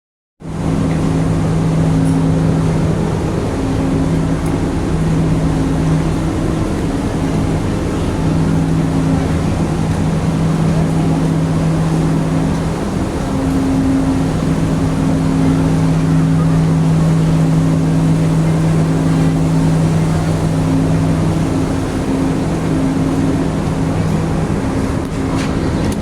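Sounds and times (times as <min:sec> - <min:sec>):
low engine drone: 0:00.4 - 0:26.0
humming tones: 0:00.6 - 0:26.0.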